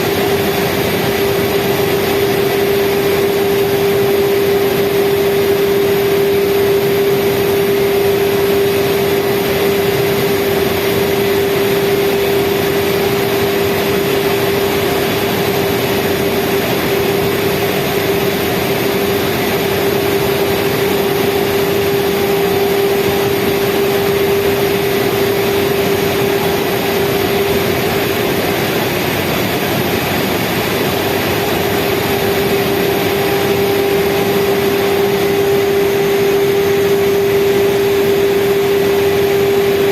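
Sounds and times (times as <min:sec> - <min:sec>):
speedboat engine hum: 0:02.5 - 0:38.0.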